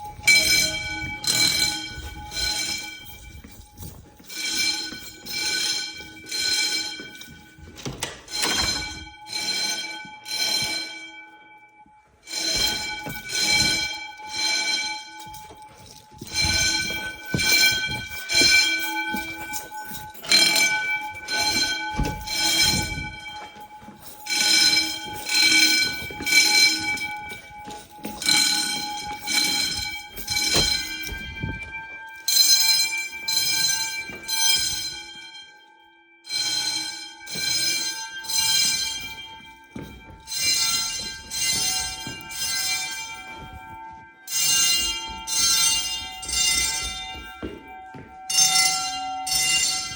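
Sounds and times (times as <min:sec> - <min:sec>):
fire alarm bells ringing: 0:00.0 - 0:49.9.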